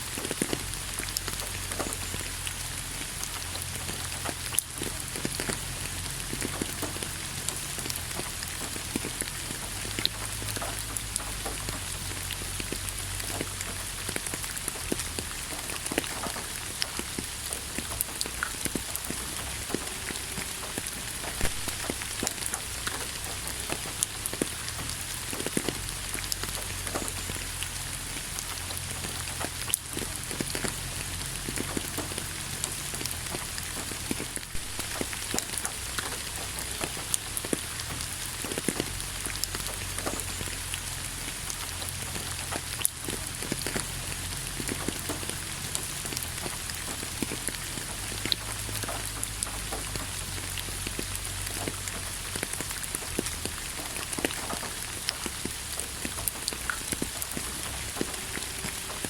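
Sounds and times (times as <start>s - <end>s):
raindrops tapping on hard surface: 0.0s - 59.0s
steady rain hiss: 0.0s - 59.0s.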